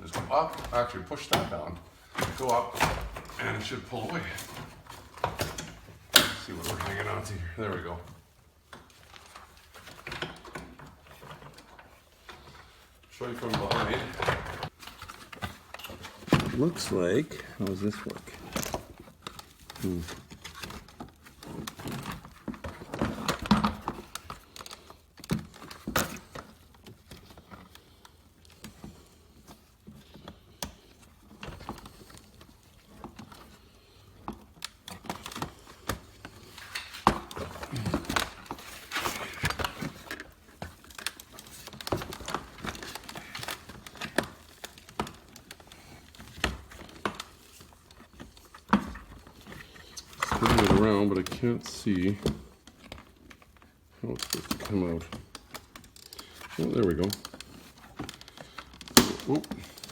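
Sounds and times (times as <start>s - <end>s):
plastic parts clicking and knocking: 0.0s - 59.9s.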